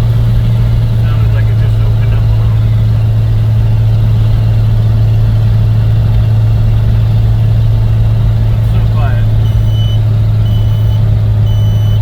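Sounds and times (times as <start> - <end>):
car engine exhaust drone: 0.0 - 12.0.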